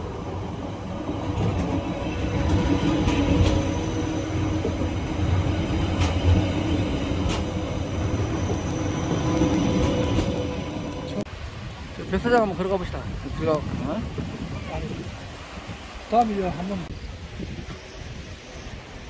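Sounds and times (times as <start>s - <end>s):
rail car rumbling: 0.0s - 19.0s.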